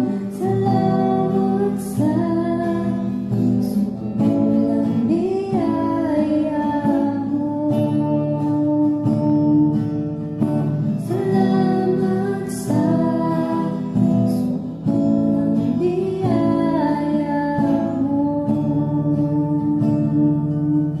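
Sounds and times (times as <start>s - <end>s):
acoustic guitar strumming: 0.0s - 21.0s
woman singing: 0.0s - 21.0s.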